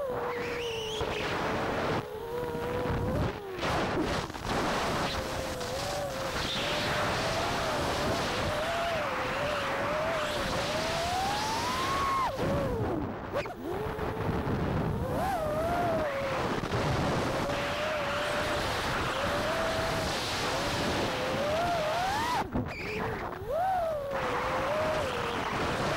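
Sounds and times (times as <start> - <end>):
drone motors whining: 0.0 - 25.9
wind on microphone: 0.0 - 25.9.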